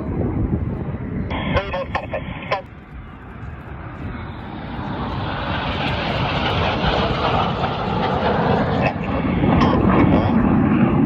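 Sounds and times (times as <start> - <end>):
jet aircraft roar: 0.0 - 11.0.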